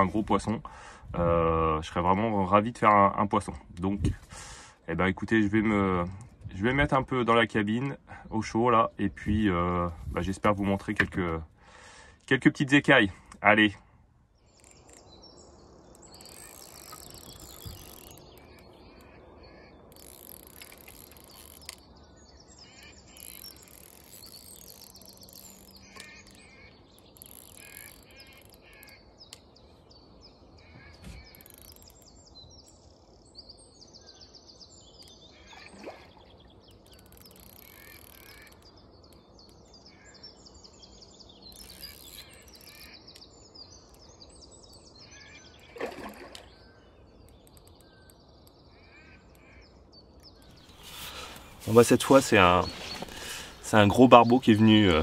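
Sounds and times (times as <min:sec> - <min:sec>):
birds singing and chirping: 0:00.0 - 0:55.0
faint outdoor background: 0:00.0 - 0:55.0.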